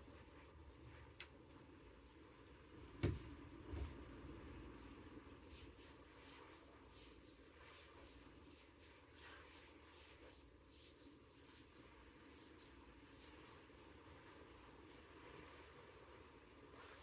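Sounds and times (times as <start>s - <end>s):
soft irregular rustling: 0.0s - 17.0s.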